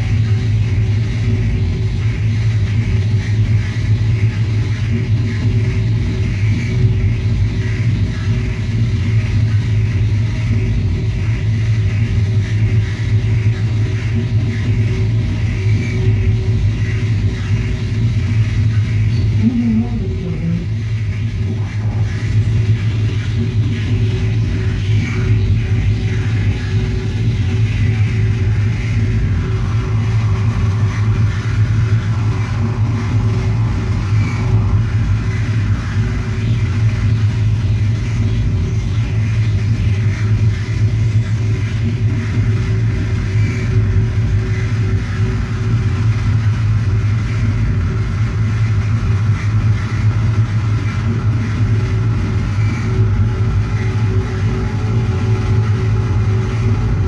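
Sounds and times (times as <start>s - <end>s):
dark ambient electronic drone: 0.0s - 57.0s.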